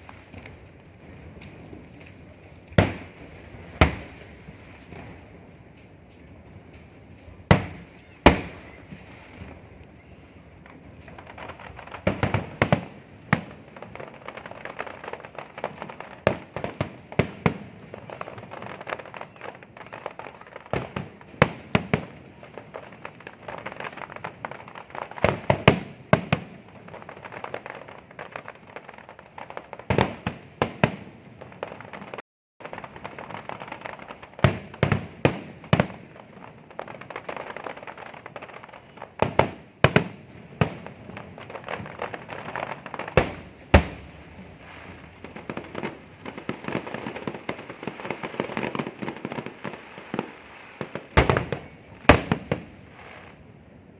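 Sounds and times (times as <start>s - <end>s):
fireworks bangs: 0.0s - 53.9s
fireworks crackle: 0.0s - 53.9s.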